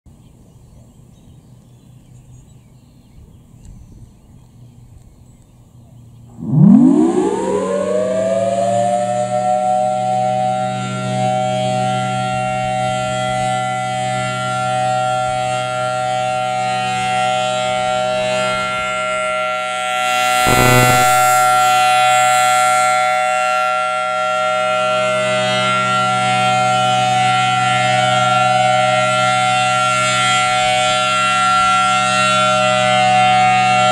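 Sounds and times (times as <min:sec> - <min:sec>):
warning siren wailing: 0:06.3 - 0:33.9.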